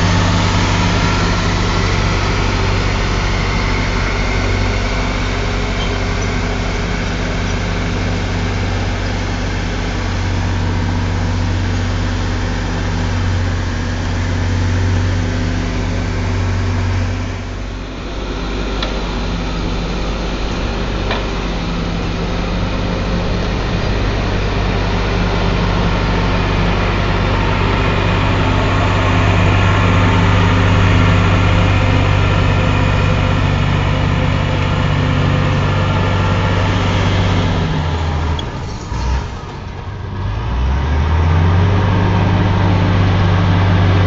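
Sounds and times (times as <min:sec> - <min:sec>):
bulldozer diesel engine drone: 0:00.0 - 0:44.0.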